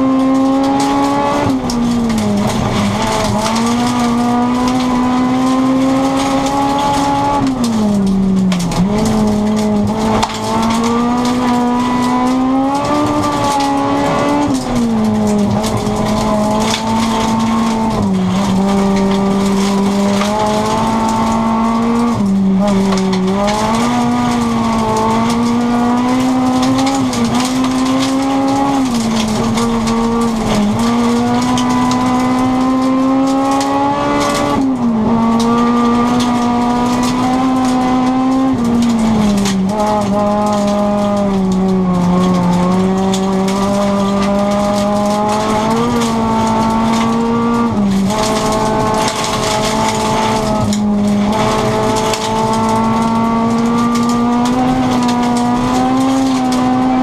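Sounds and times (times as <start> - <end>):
rally car engine revving: 0.0 - 57.0
tyres rushing on gravel: 0.0 - 57.0.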